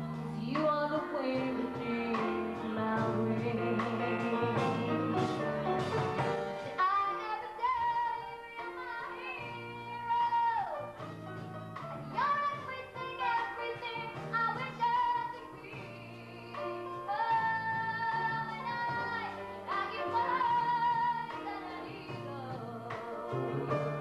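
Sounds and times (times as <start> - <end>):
girl singing into microphone: 0.0 - 5.0, 6.6 - 11.1, 12.1 - 24.0
instrumental accompaniment: 0.0 - 24.0.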